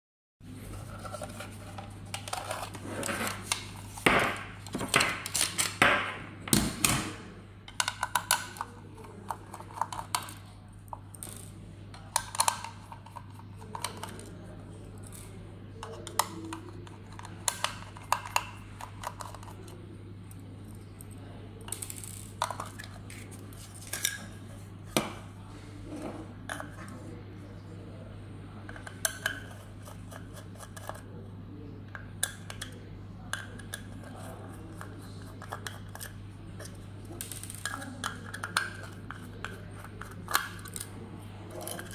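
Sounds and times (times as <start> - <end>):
steady low hum: 0.4 - 41.9.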